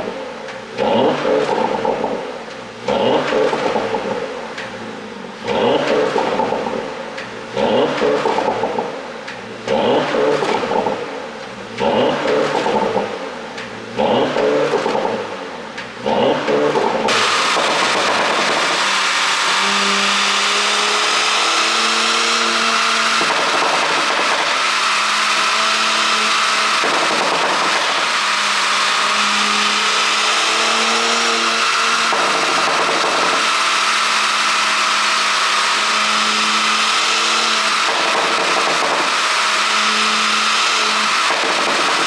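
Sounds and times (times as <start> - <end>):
car engine droning: 0.0 - 42.0
road noise: 0.0 - 42.0.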